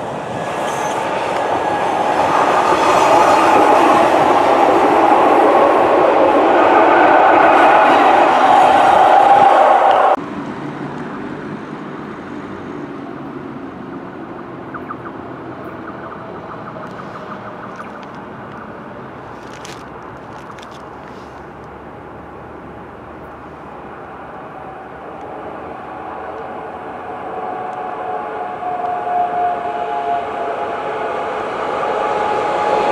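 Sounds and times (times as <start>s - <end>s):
electric train approaching: 0.0s - 10.6s, 13.1s - 21.2s, 21.8s - 32.9s.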